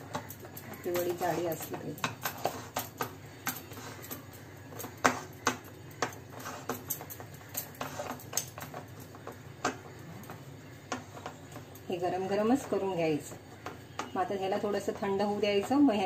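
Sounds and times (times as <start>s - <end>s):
hands patting dough on plate: 0.0s - 16.0s.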